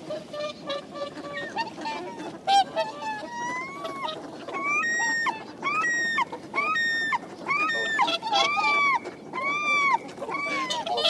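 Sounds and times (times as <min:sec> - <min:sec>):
swans honking: 0:00.0 - 0:11.0.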